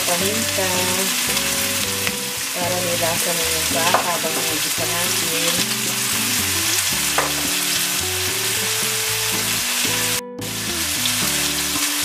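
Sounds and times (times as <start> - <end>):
meat and onions sizzling in pan: 0.0 - 12.0.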